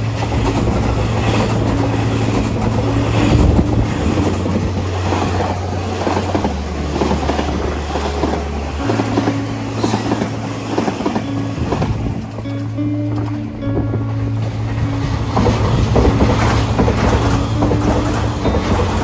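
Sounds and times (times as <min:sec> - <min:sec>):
express train rushing past: 0:00.0 - 0:19.0
wheels rattling on rail: 0:00.0 - 0:19.0.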